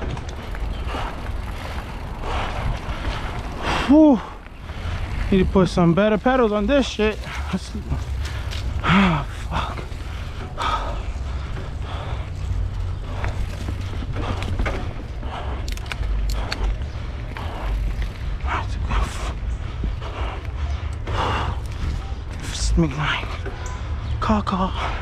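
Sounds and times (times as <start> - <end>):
bike clicks and rattles: 0.0 - 25.0
bike tyres rumbling on dirt: 0.0 - 25.0
rider breathing: 0.0 - 25.0.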